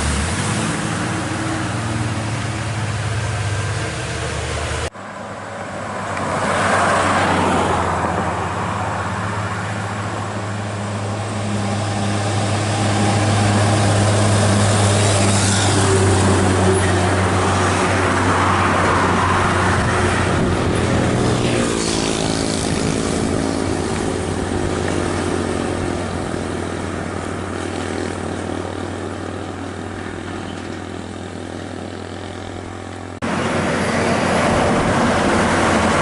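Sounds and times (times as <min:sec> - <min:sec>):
heavy vehicle engine passing: 0:00.0 - 0:36.0
tyre and road noise: 0:00.0 - 0:36.0.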